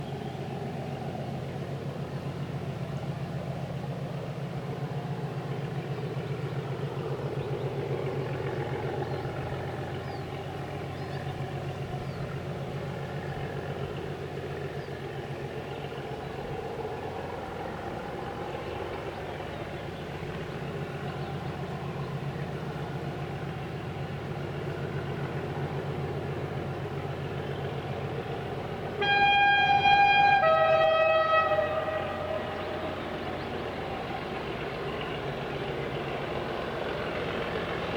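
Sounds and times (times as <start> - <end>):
diesel locomotive engine running: 0.0 - 37.9.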